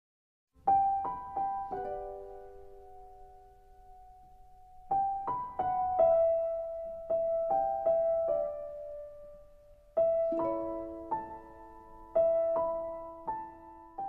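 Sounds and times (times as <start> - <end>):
slow solo piano melody: 0.6 - 14.0.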